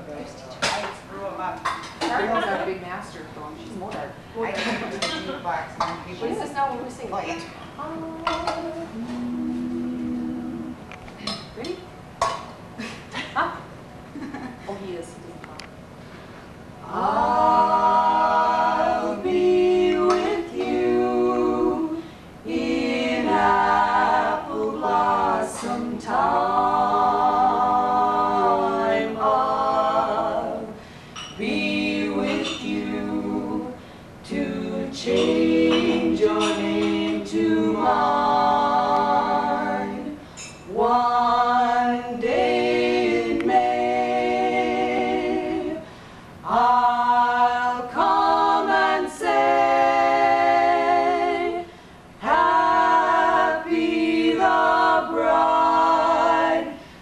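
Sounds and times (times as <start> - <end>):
female vocal trio singing: 3.8 - 11.8, 16.8 - 57.0.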